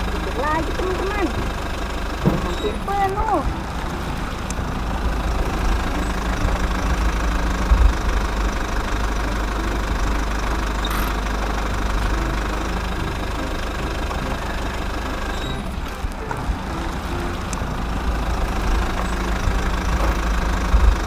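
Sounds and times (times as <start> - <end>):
excavator engine rumbling: 0.0 - 21.0.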